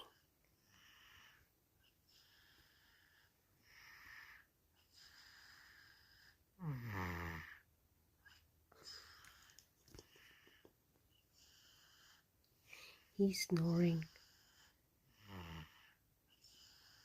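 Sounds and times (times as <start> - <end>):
toddler snoring: 0.0 - 10.6, 11.3 - 12.3, 13.9 - 17.0
wheezy hissing breaths: 0.6 - 13.2, 14.1 - 17.0.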